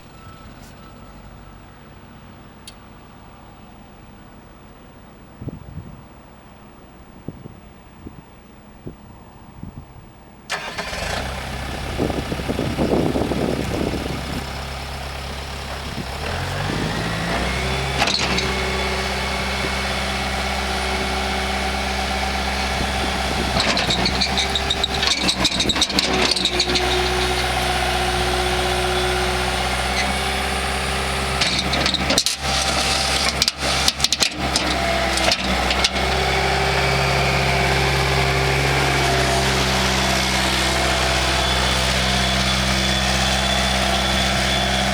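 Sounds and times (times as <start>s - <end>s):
diesel engine running: 0.0s - 4.4s, 10.5s - 44.9s.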